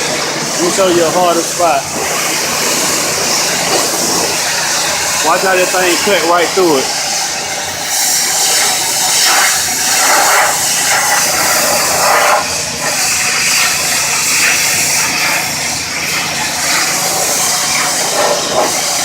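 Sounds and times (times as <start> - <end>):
pressure washer spray hissing: 0.0 - 19.0.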